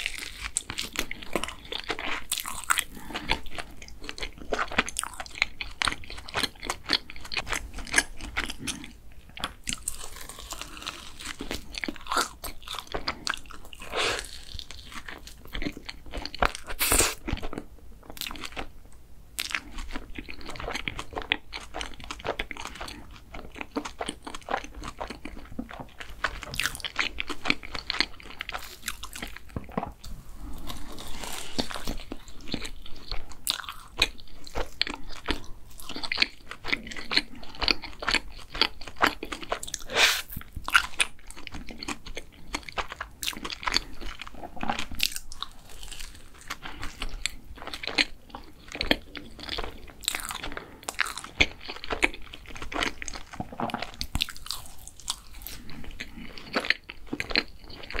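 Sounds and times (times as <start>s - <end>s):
close-miked chewing: 0.0s - 58.0s.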